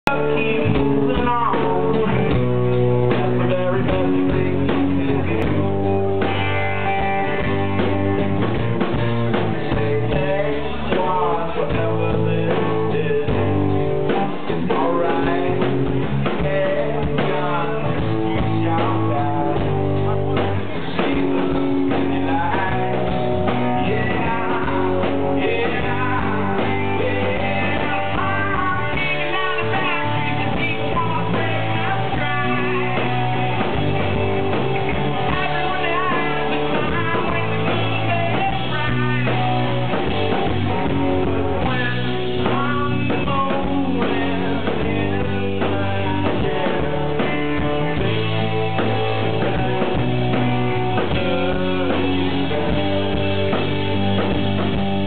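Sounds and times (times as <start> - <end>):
person singing: 0.0 - 6.3, 9.6 - 53.2
live rock band playing: 0.0 - 55.0.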